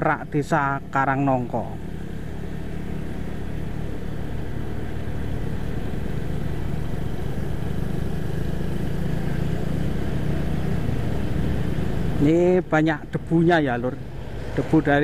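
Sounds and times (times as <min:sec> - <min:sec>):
road and wind noise: 0:00.0 - 0:15.0
vehicle engine droning: 0:00.0 - 0:15.0.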